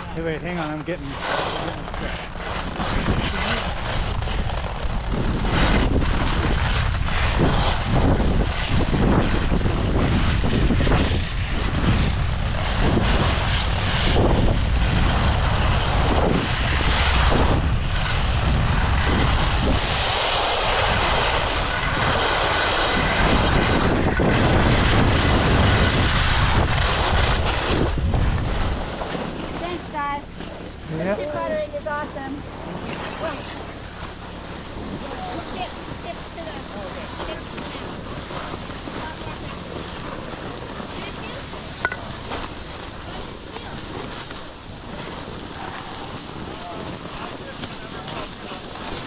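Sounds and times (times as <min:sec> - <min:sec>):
skis scraping over snow: 0:00.0 - 0:49.0
wind rumble on microphone: 0:00.0 - 0:49.0.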